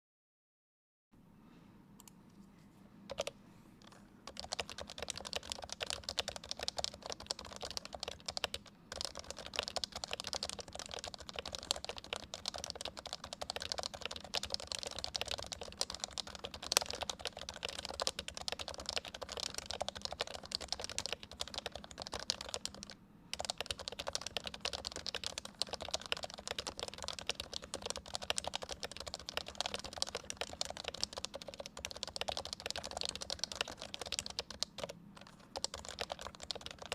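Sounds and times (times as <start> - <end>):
fast keyboard typing: 3.1 - 36.9.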